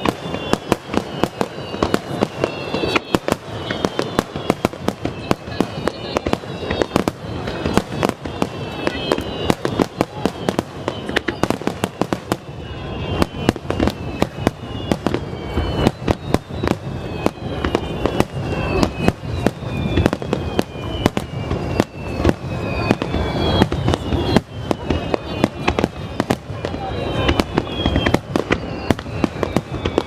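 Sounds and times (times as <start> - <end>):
fireworks bangs: 0.0 - 30.0
fireworks falling whistles: 0.0 - 30.0.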